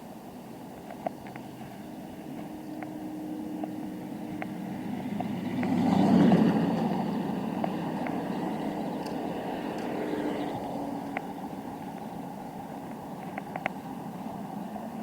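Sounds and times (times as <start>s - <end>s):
vehicle passing by: 1.6s - 15.0s.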